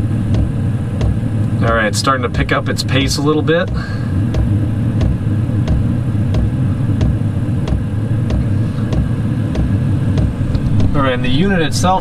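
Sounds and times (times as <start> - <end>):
fuel pump ticking: 0.0 - 12.0
heater blower rumble: 0.0 - 12.0.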